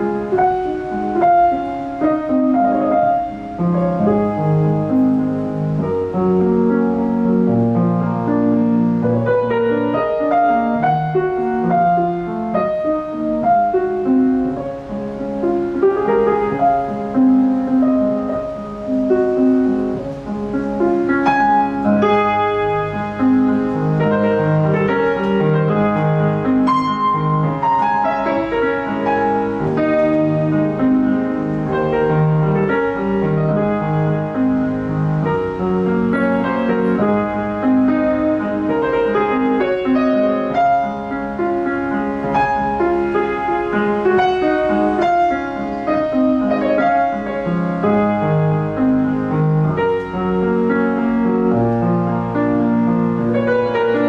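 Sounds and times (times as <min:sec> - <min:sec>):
grand piano playing: 0:00.0 - 0:54.0.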